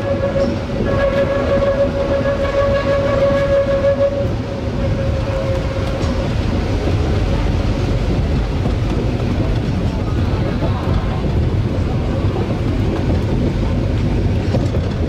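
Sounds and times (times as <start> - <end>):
train running noise: 0.0 - 15.0
train whine: 0.0 - 15.0.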